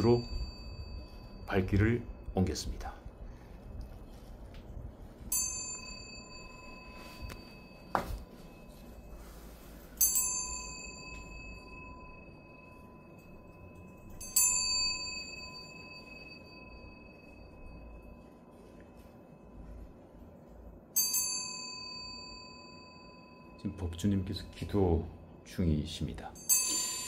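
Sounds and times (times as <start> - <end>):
metal prayer bell ringing: 0.0 - 3.0, 5.2 - 20.0, 20.9 - 27.0.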